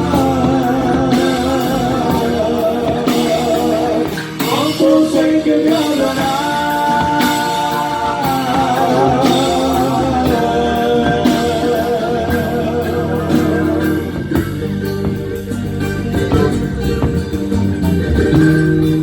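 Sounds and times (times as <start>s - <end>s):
folk-pop band playing: 0.0s - 19.0s
person singing with vibrato: 0.0s - 19.0s.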